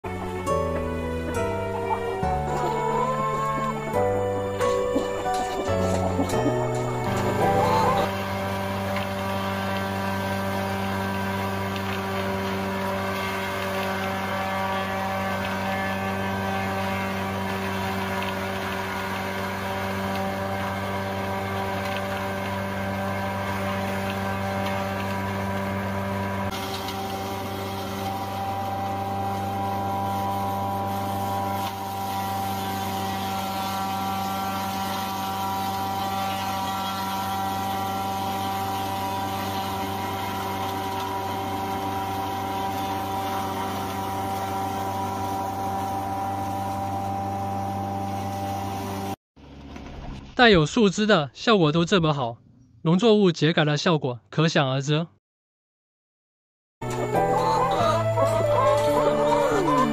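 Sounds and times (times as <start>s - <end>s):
electric grinder humming: 0.0s - 49.2s, 56.8s - 59.9s.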